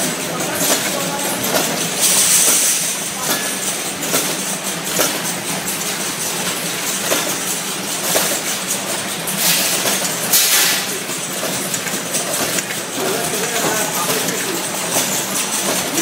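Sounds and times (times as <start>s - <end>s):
machine clattering: 0.0s - 16.0s.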